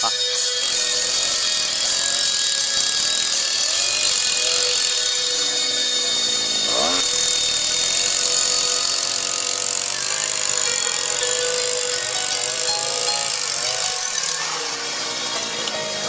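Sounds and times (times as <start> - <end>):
petrol jackhammer hammering rock: 0.6 - 16.0.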